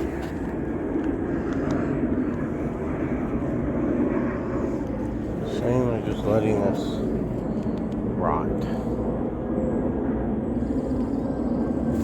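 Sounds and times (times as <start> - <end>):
aircraft rumbling overhead: 0.0 - 12.0.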